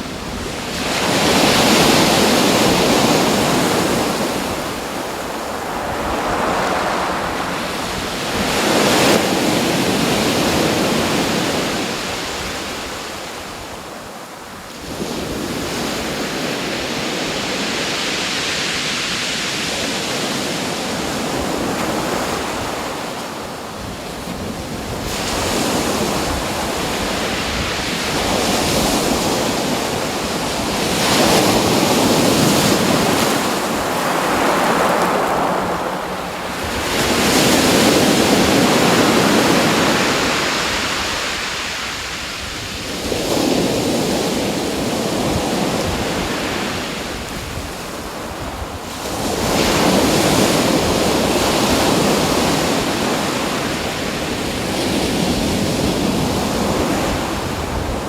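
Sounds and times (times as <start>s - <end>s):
ocean waves washing onto shore: 0.0s - 58.0s.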